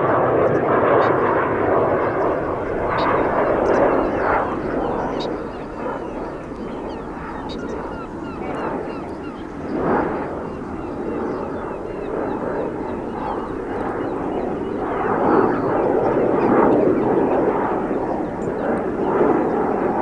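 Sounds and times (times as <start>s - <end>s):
jet aircraft rumble: 0.0s - 20.0s.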